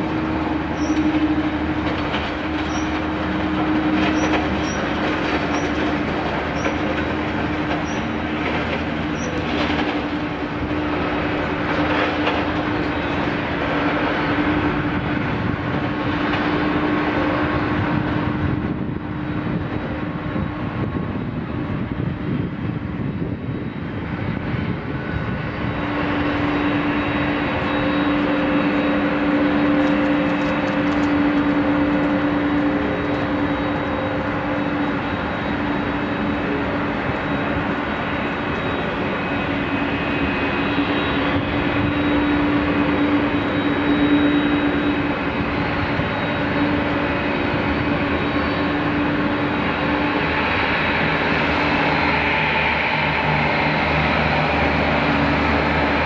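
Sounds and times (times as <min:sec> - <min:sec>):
jet engines droning at low power: 0:00.0 - 0:56.0.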